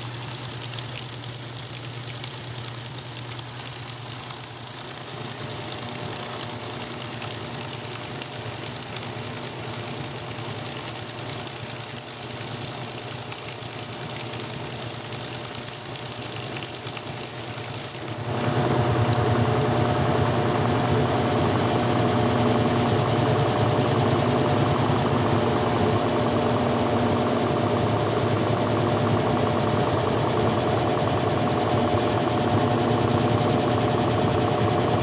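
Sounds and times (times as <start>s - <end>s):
washing machine motor humming: 0.0s - 35.0s.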